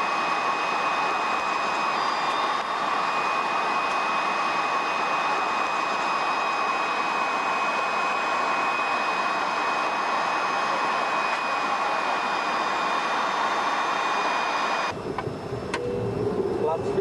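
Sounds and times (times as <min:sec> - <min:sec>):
airflow and jet engine noise: 0:00.0 - 0:17.0
thin high whine: 0:00.0 - 0:17.0.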